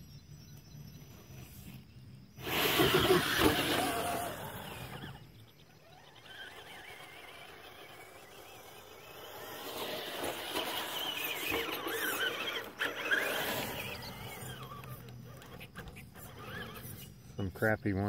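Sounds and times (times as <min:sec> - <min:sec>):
rc car motor whining: 0:00.5 - 0:18.0
tires scrabbling: 0:02.4 - 0:17.6.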